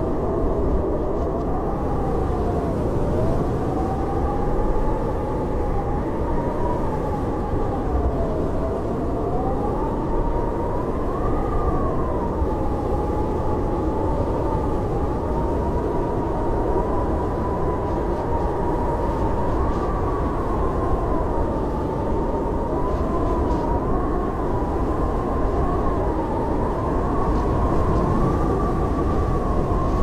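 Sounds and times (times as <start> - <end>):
blizzard wind howling: 0.0 - 30.0.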